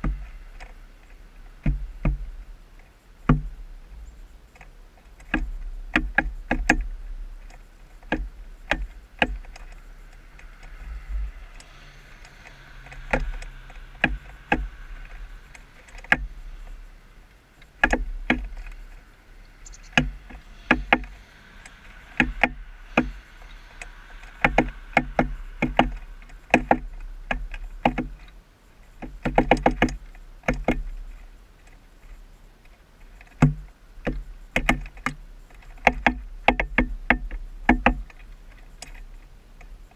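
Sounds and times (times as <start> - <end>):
woodpecker tapping on feeder: 0.0 - 2.5, 3.2 - 3.7, 4.5 - 28.3, 28.9 - 31.2, 33.0 - 39.8
low steady rumble: 0.0 - 39.9.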